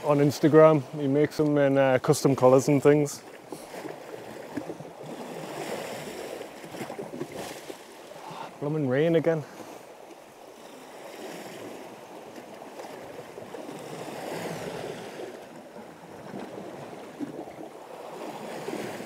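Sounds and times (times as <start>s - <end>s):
sea water washing against rocks: 2.6s - 19.0s.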